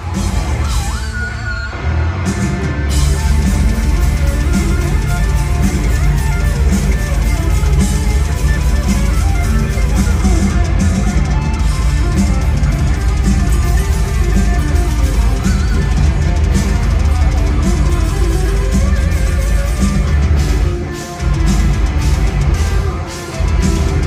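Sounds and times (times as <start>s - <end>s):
lead electric guitar: 0.0s - 24.0s
live hard rock band: 0.0s - 24.0s.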